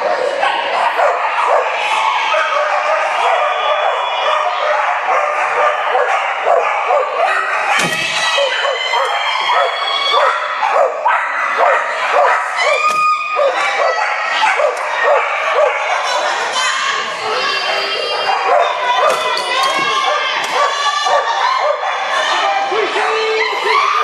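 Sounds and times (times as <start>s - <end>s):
dogs barking and yipping: 0.0s - 24.0s
people's voices: 0.0s - 24.0s.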